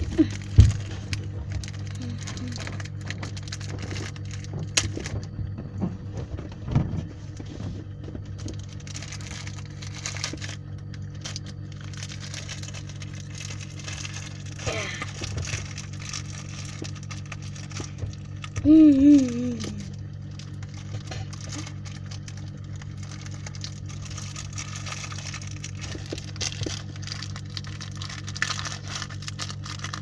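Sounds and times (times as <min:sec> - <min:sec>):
crunching snack being eaten: 0:00.0 - 0:05.1, 0:08.3 - 0:30.0
steady low hum: 0:00.0 - 0:30.0.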